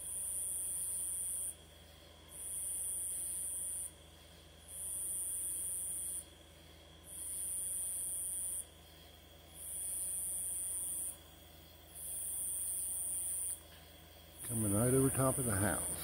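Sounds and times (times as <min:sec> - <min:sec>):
insect buzzing trill: 0:00.0 - 0:16.0.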